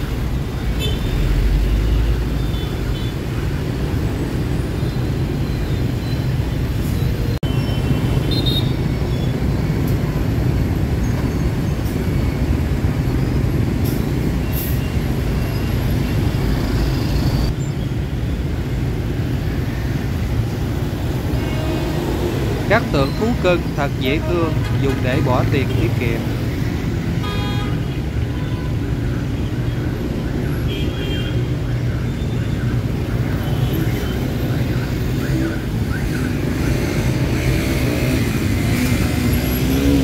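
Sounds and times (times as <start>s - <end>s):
city street traffic rumble: 0.0s - 40.0s.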